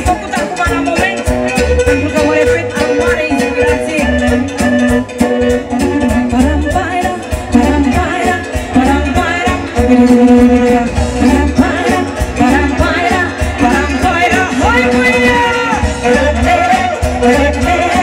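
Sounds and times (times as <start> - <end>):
folk band playing: 0.0 - 18.0
person singing: 0.0 - 18.0.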